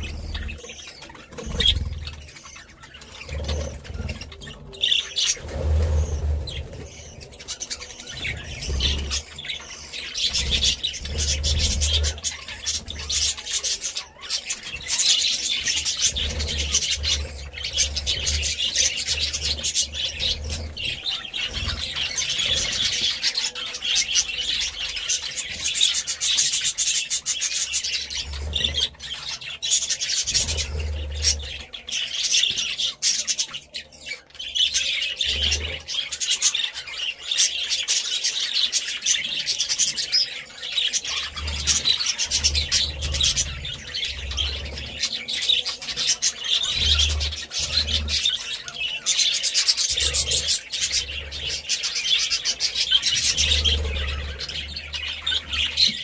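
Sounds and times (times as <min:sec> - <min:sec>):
budgerigars chattering and chirping: 0:00.0 - 0:56.0.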